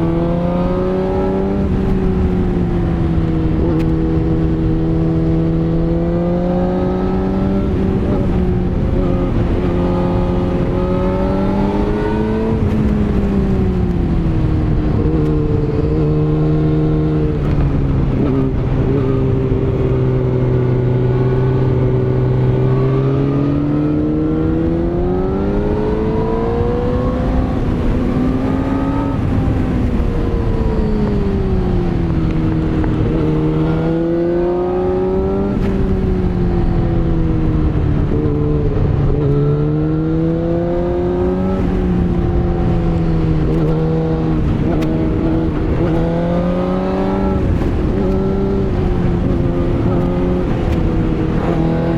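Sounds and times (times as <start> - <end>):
motorcycle engine revving: 0.0 - 51.9
wind and road noise: 0.0 - 51.9.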